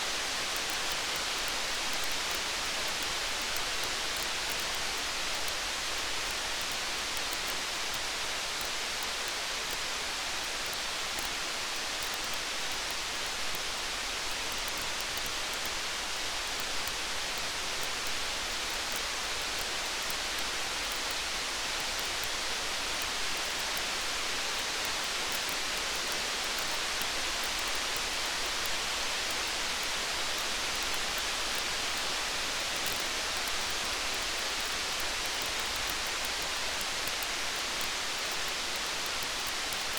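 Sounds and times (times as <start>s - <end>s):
steady rain: 0.0s - 39.9s
faint fine ticks: 0.2s - 39.9s.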